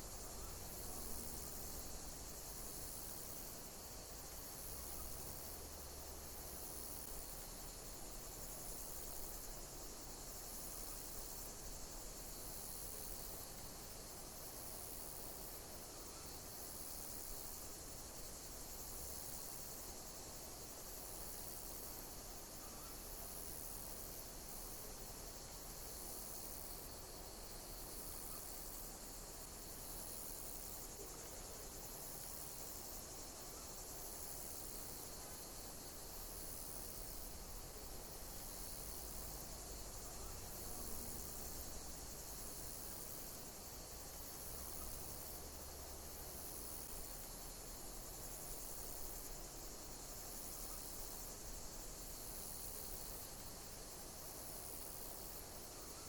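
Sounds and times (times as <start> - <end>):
insects chirping: 0.0 - 56.0
steady high hiss: 0.0 - 56.0.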